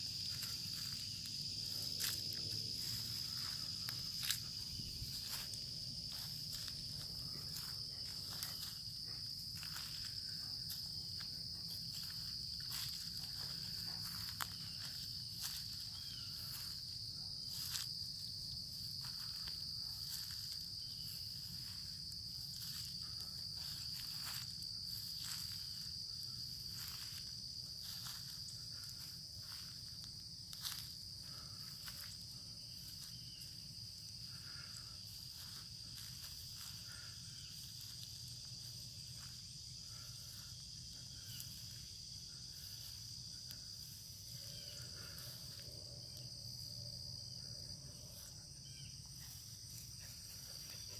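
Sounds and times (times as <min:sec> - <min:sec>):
insects trilling: 0:00.0 - 0:50.9.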